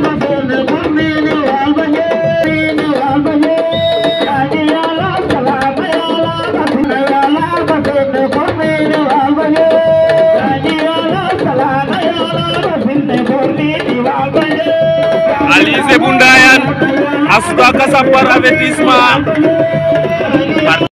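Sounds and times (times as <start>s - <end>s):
hand drums: 0.0s - 20.9s.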